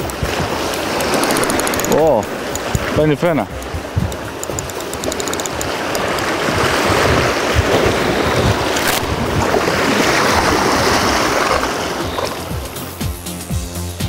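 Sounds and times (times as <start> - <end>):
wind buffeting microphone: 0.0 - 12.7
surf washing against rocks: 0.0 - 12.9.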